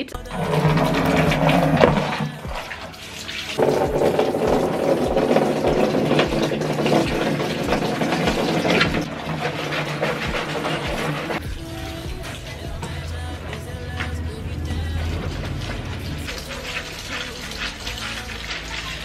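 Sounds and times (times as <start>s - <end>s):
water pouring into plastic basin: 0.2s - 19.0s.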